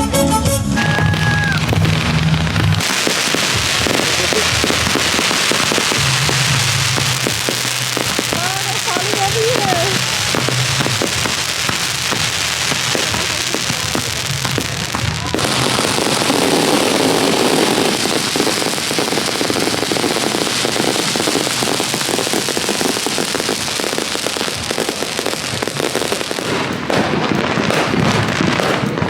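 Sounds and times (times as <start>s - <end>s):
fireworks crackling: 0.8s - 29.0s.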